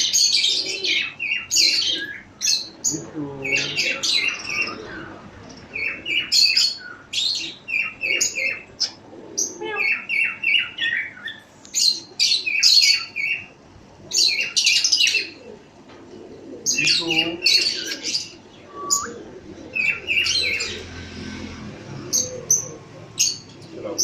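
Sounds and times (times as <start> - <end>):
cage birds chirping and squawking: 0.0 - 24.0.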